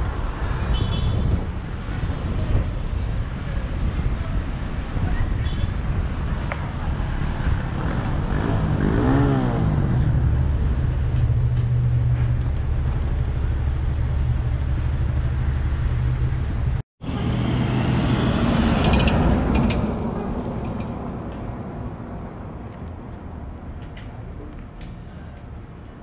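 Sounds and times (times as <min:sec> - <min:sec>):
car engine and road rumble: 0:01.2 - 0:26.0.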